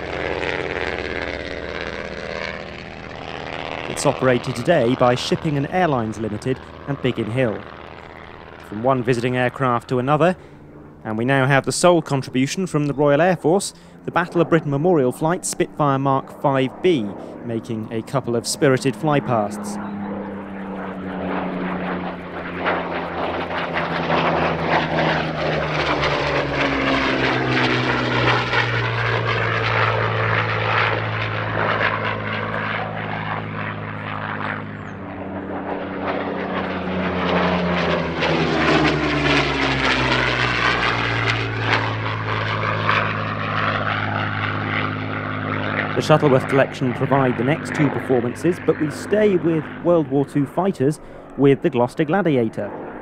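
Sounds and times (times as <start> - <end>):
propeller plane engine flypast: 0.0 - 53.0.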